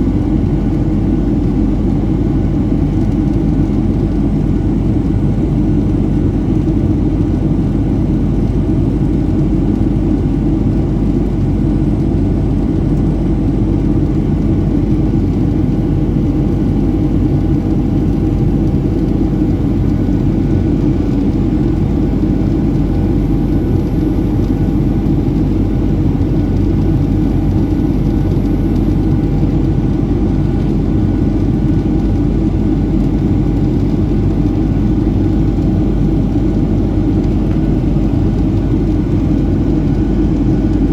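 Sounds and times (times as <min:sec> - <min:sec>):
airplane cabin rumble: 0:00.0 - 0:40.9
faint steady hums: 0:00.0 - 0:40.9.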